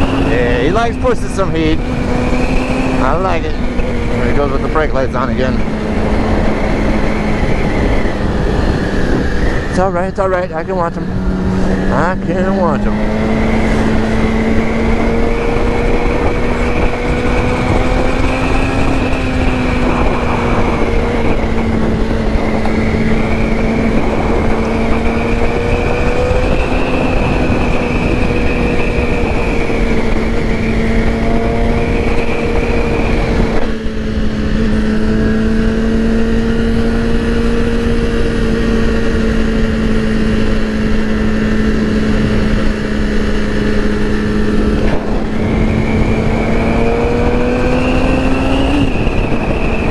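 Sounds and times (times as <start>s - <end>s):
motorcycle engine high-revving: 0.0s - 49.9s
wind rush: 0.0s - 49.9s.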